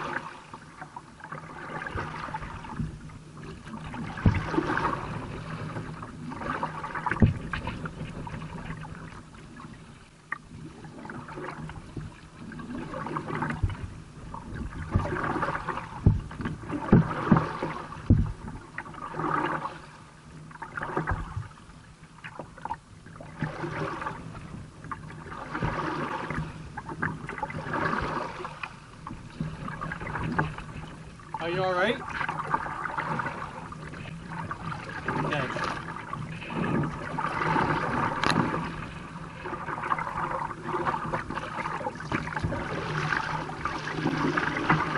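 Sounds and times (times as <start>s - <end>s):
paddle splashing: 0.0s - 44.9s
water washing at bow: 0.0s - 44.9s.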